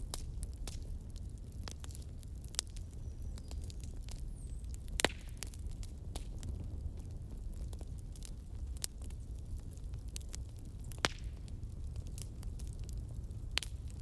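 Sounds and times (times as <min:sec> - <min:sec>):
fire rumbling: 0:00.0 - 0:14.0
wood crackling and popping: 0:00.0 - 0:14.0.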